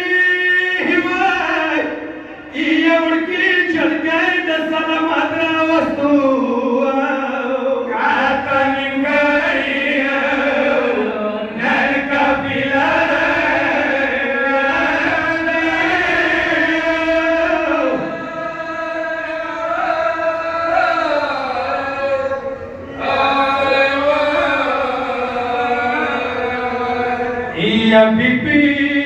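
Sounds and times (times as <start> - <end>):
man chanting a lament: 0.0 - 29.0.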